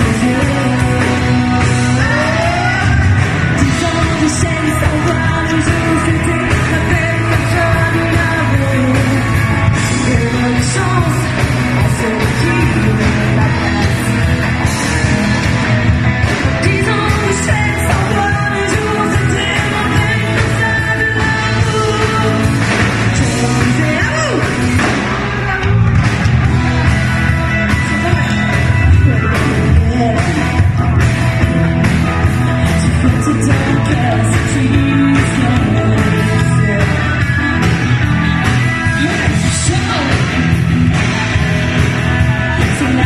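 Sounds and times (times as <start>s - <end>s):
person singing: 0.0s - 43.0s
rock band playing: 0.0s - 43.0s.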